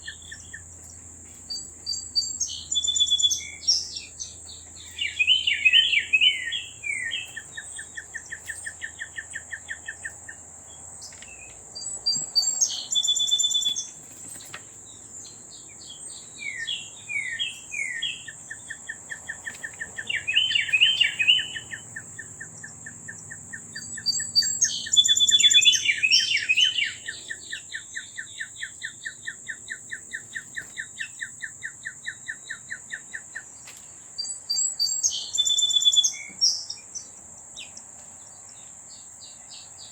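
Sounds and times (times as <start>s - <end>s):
birds chirping: 0.0s - 39.9s
songbird singing with trill: 0.0s - 39.9s.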